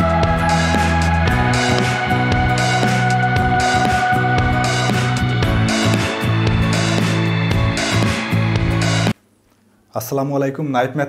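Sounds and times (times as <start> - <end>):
intro music with steady beat: 0.0 - 9.2.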